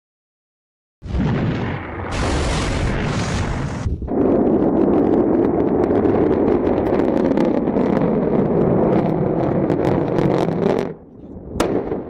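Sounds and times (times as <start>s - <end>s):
rocket roar: 1.0s - 12.0s.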